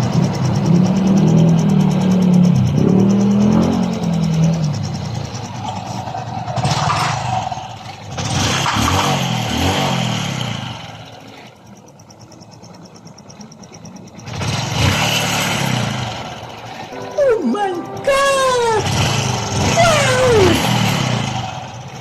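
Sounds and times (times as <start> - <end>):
motorcycle engine revving and idling: 0.0 - 16.9, 18.9 - 22.0.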